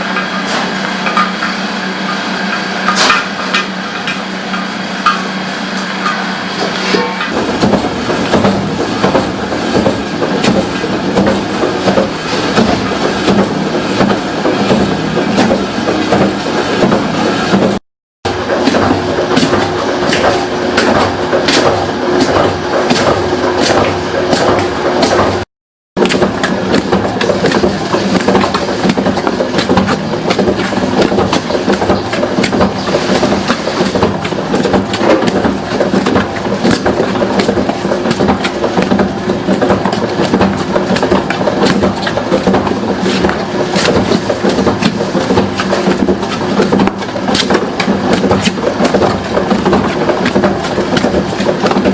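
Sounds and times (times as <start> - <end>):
machine humming and clattering: 0.0 - 51.9.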